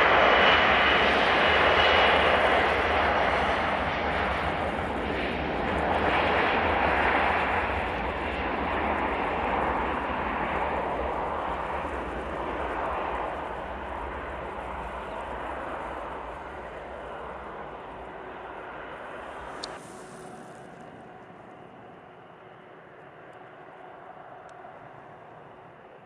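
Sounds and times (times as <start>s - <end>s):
jet engines rushing on takeoff: 0.0s - 26.0s.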